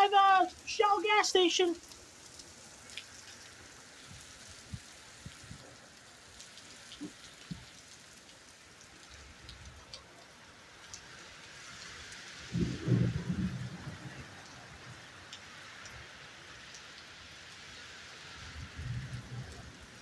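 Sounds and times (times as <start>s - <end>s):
raindrops tapping near microphone: 0.0s - 20.0s
rainfall hiss: 0.0s - 20.0s.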